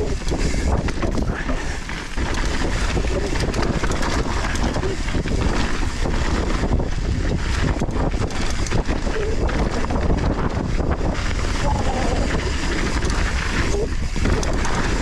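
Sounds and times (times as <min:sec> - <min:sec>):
bike rattling over bumps: 0:00.0 - 0:15.0
tyres running over loose soil: 0:00.0 - 0:15.0
wind rushing over microphone: 0:00.0 - 0:15.0.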